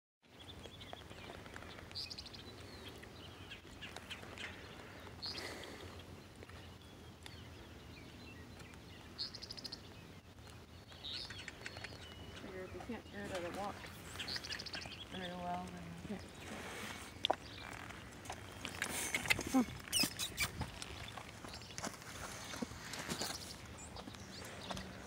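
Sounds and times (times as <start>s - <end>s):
low outdoor background noise: 0.2s - 25.0s
small birds trilling: 0.2s - 25.0s.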